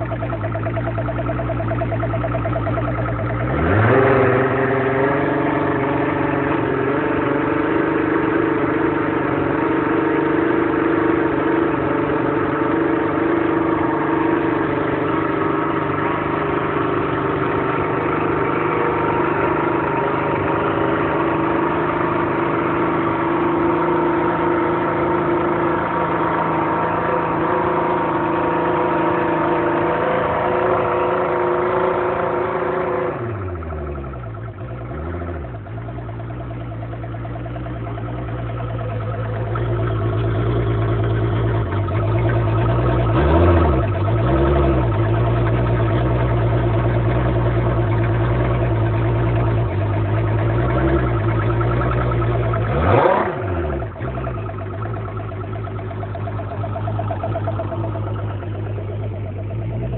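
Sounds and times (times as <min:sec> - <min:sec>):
outboard motor starting and idling: 0:00.0 - 0:59.9.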